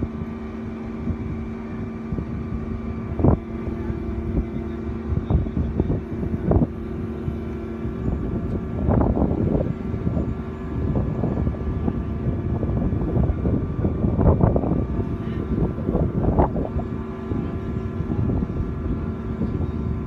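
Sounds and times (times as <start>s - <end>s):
crane engine hum: 0.0s - 20.0s.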